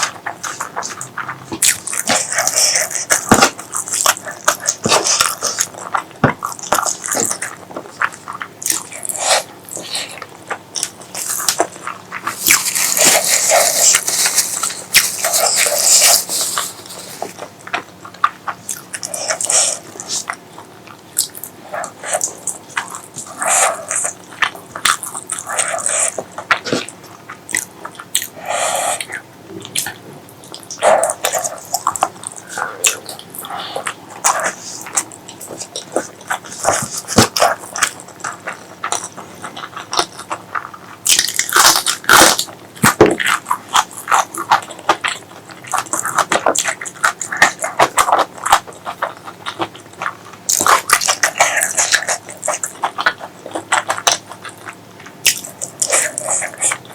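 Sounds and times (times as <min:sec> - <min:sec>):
wet chewing and smacking: 0:00.0 - 0:56.9.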